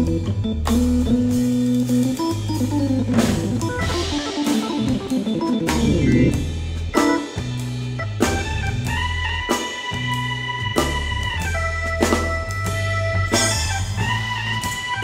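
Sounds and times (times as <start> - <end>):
drums and cymbals: 0.0 - 15.0
organ playing blues: 0.0 - 15.0.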